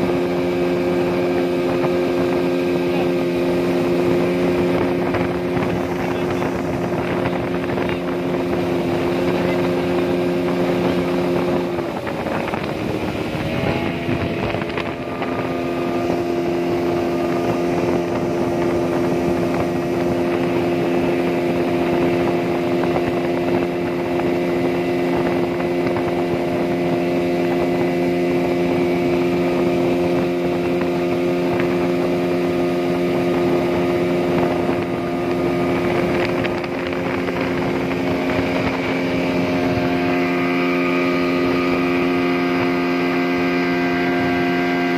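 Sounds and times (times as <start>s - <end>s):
outboard engine at high speed: 0.0s - 44.9s
water and wind rushing: 0.0s - 44.9s.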